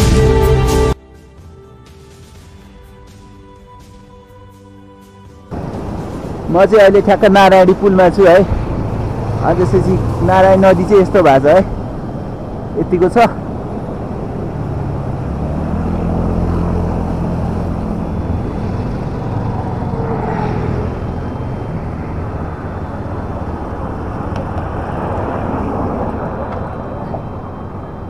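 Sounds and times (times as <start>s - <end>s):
rush of traffic: 5.4s - 28.0s.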